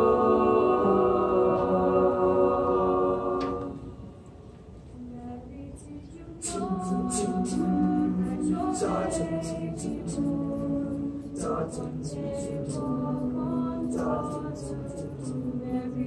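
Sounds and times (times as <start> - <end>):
choir singing a cappella: 0.0 - 4.2, 5.0 - 16.0.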